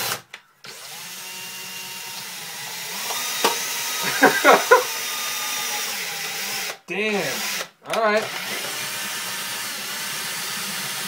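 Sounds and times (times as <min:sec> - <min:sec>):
power drill motor whining: 0:00.0 - 0:11.0.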